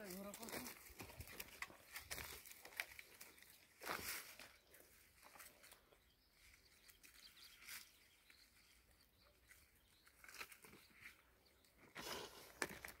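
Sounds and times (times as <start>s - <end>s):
rustling of dry undergrowth: 0.0s - 13.0s.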